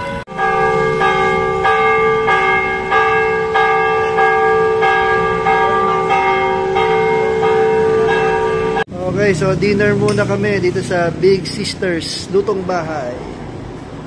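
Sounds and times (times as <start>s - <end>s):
church bells ringing: 0.0s - 13.4s.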